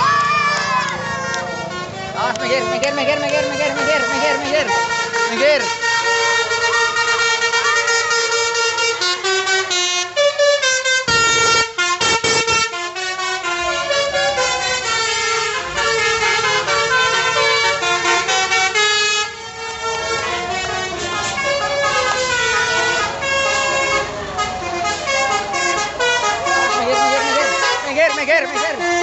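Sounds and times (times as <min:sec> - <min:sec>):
musical air horn melody: 0:01.2 - 0:29.0.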